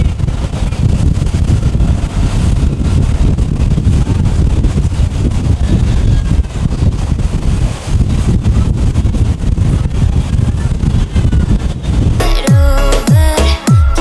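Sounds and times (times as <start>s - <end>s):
wind buffeting the microphone: 0.0s - 12.2s.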